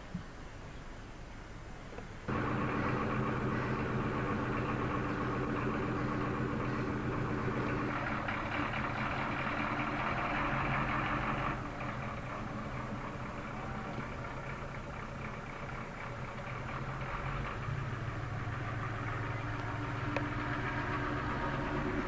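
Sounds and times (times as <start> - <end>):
vehicle engine idling: 1.3 - 22.0.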